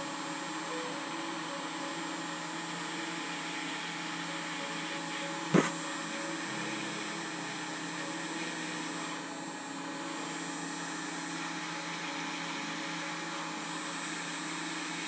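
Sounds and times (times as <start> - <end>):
hot air gun blower: 0.0 - 15.0.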